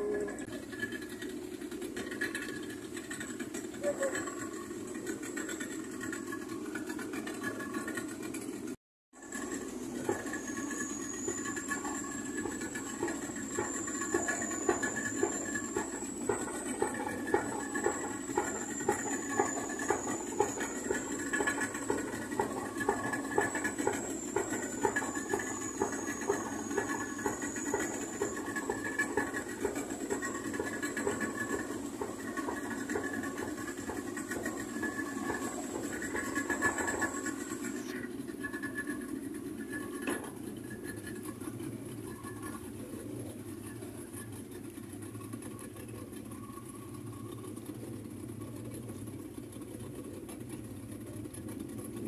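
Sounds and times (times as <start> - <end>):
diesel engine knocking: 0.0 - 52.0.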